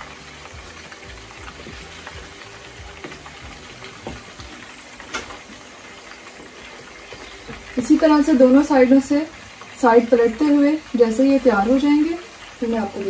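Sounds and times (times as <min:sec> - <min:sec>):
meat frying in hot oil: 0:00.0 - 0:13.0.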